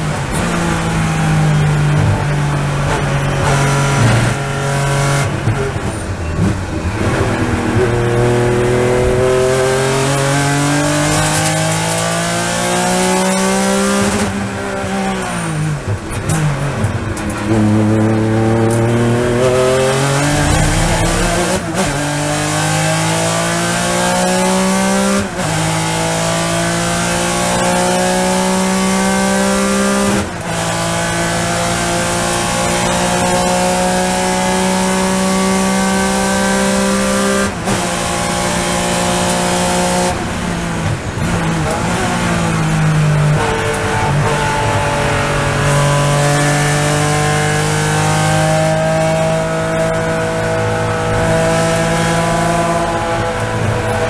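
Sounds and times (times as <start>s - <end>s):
racing car engine at full throttle: 0.0s - 54.0s.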